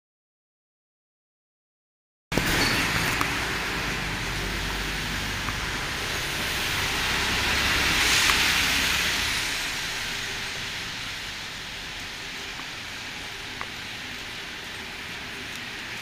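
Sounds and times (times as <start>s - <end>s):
traffic rushing overhead: 2.4s - 16.0s.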